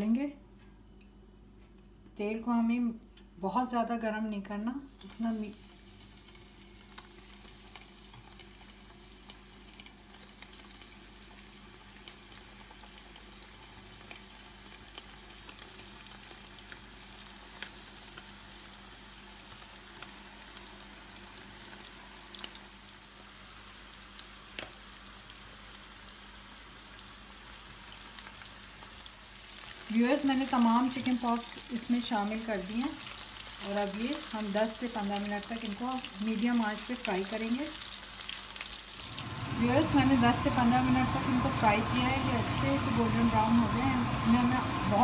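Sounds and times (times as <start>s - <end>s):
chicken deep-frying in oil: 4.8s - 45.0s.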